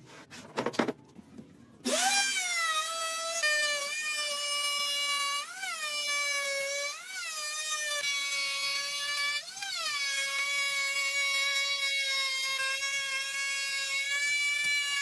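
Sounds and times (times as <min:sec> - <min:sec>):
electric power tool whining: 0:01.8 - 0:15.0.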